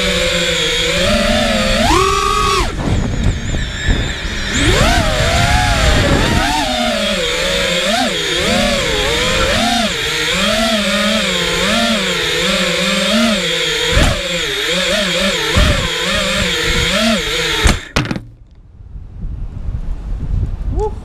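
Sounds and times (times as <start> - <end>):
quadcopter motors whining: 0.0 - 18.3.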